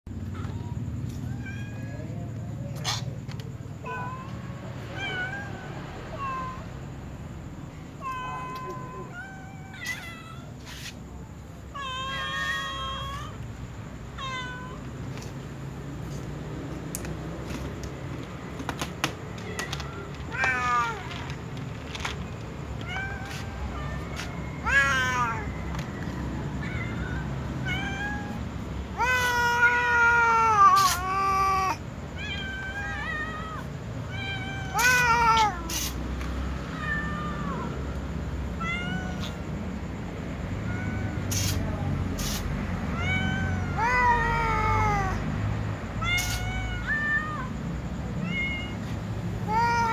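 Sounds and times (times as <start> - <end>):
cats meowing: 0.2 - 49.9.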